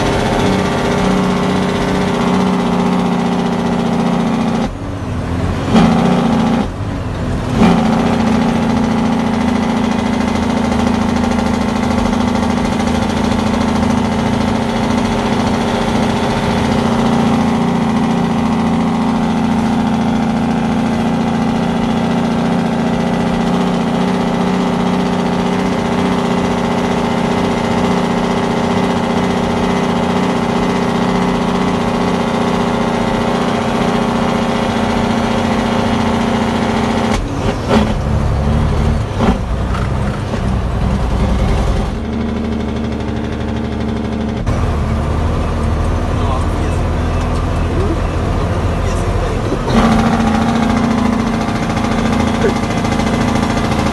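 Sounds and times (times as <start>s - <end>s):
diesel truck engine droning: 0.0s - 53.9s.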